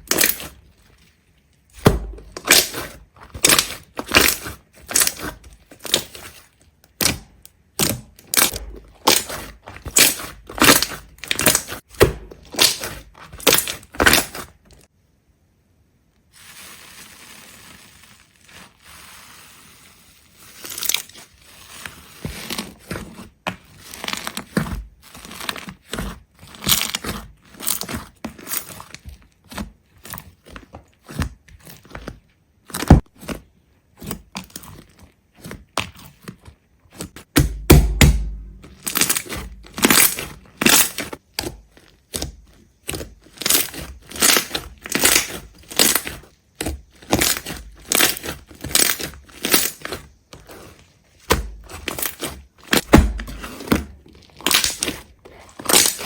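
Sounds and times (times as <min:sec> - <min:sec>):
brittle material crunching: 0:00.0 - 0:14.9, 0:16.3 - 0:56.0.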